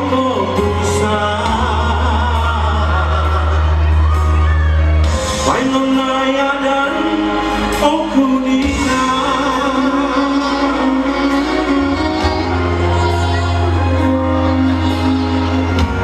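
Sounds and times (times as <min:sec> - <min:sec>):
live band playing: 0:00.0 - 0:16.0
man singing into a microphone: 0:00.0 - 0:16.0
strong bass line: 0:00.0 - 0:16.0.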